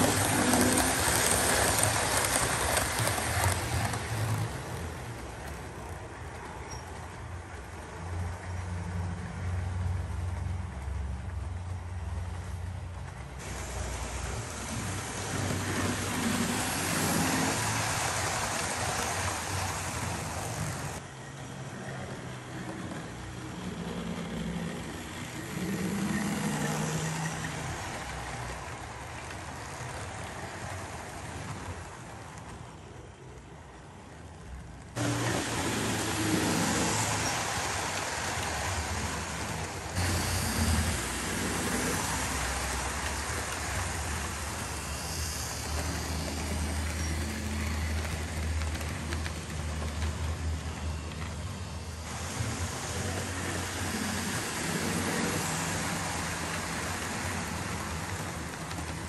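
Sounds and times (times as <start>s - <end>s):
model train running on track: 0.0s - 59.0s.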